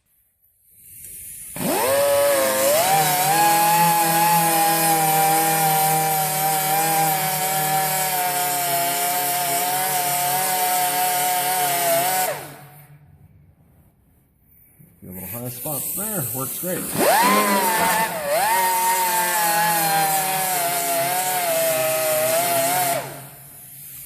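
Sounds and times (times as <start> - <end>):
angle grinder grinding metal: 1.6 - 12.6, 15.4 - 24.0.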